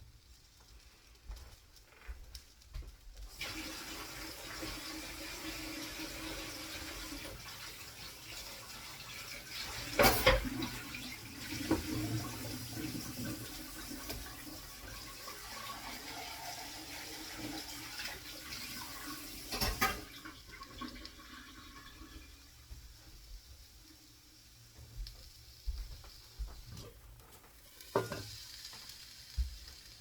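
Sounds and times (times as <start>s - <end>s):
omelette sizzling in a frying pan: 0.0s - 30.0s.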